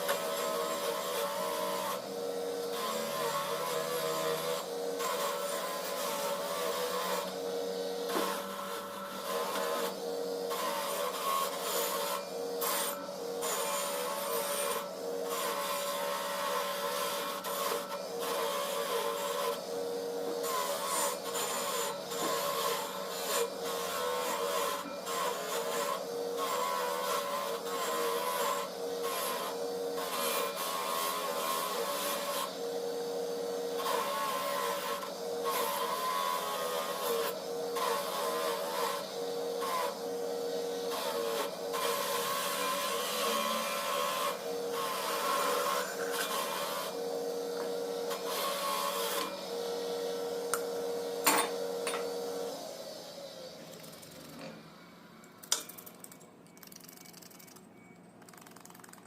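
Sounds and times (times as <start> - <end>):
small motor running: 0.0 - 59.0.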